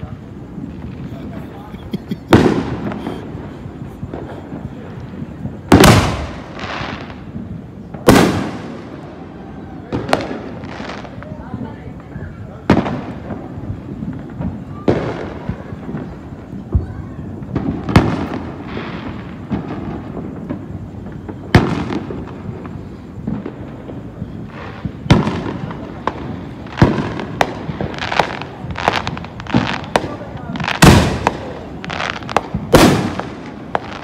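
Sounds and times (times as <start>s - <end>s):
distant fireworks crackling: 0.0s - 34.0s
firework bangs: 0.0s - 34.0s.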